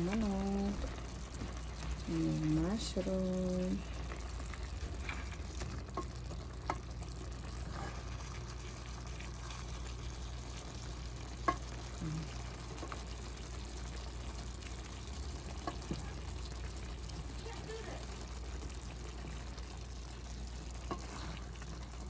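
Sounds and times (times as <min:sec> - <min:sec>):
food sizzling in a pot: 0:00.0 - 0:22.0
steady low hum: 0:00.0 - 0:22.0.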